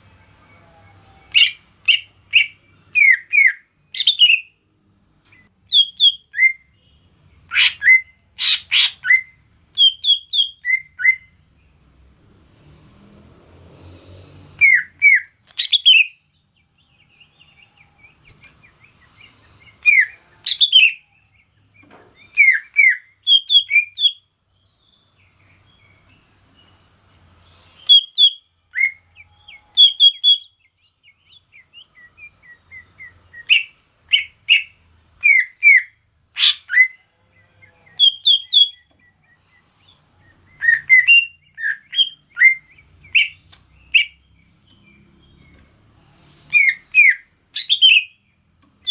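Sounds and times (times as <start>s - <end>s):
bird chirping sharply: 1.2s - 4.5s, 5.4s - 11.4s, 14.5s - 16.3s, 16.9s - 24.2s, 27.4s - 45.7s, 46.3s - 48.9s.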